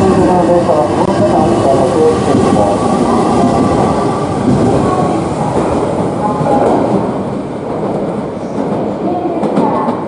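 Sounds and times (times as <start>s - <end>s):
train wheels and motors rumbling: 0.0s - 10.0s.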